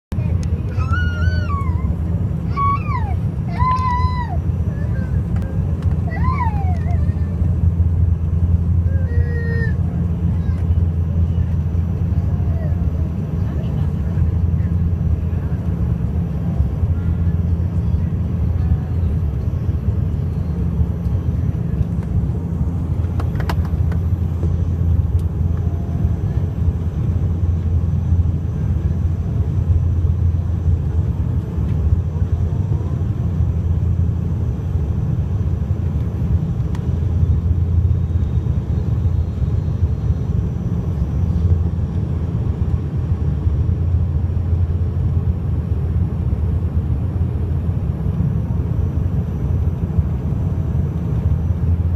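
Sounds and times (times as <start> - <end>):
airliner engines droning: 0.1 - 51.9.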